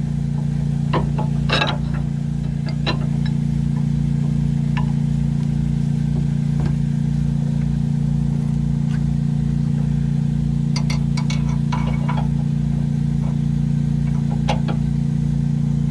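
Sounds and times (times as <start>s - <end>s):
machine hum with low throb: 0.0s - 15.9s.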